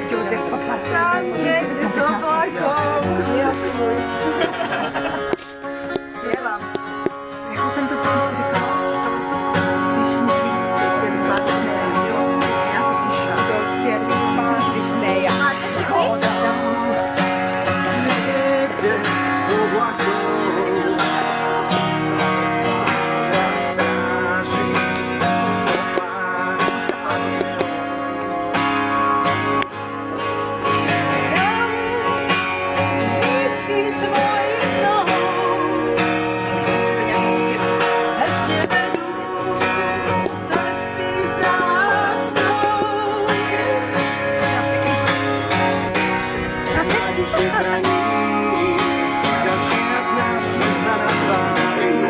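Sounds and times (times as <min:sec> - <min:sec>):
acoustic guitar strumming: 0:00.0 - 0:52.0
person singing: 0:07.3 - 0:28.0, 0:30.4 - 0:46.0, 0:46.6 - 0:52.0.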